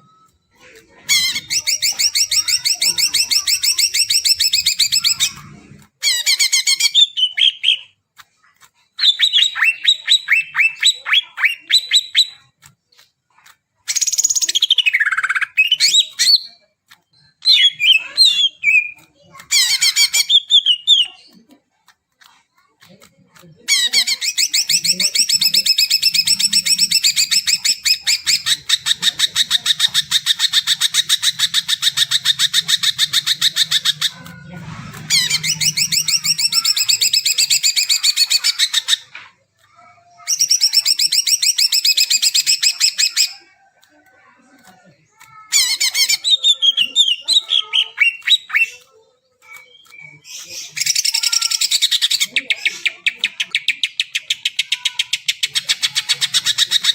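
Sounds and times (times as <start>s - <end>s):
bird singing rapid chattering notes: 0.0s - 13.1s, 13.8s - 21.4s, 22.5s - 43.4s, 45.1s - 56.9s.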